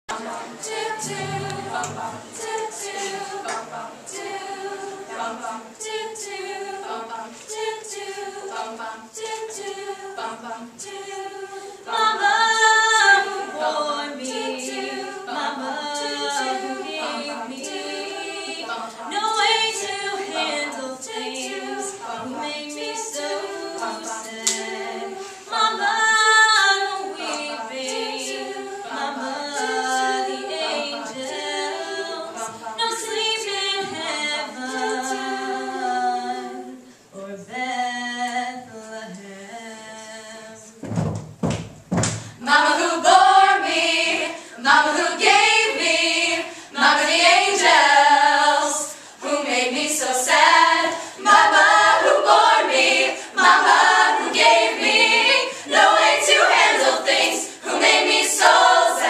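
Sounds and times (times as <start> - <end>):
female a cappella group singing: 0.1 - 40.9, 42.1 - 59.0.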